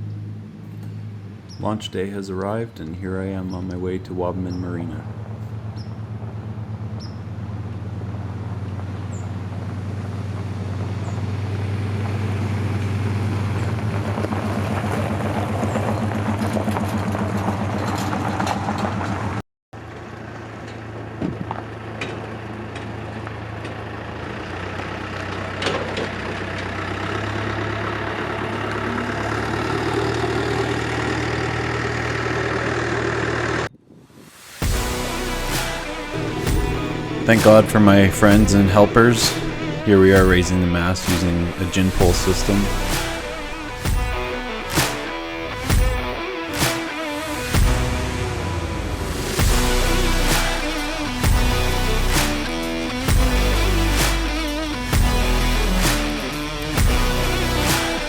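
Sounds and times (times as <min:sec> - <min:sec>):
vehicle engine drone and road noise: 0:00.0 - 0:58.0.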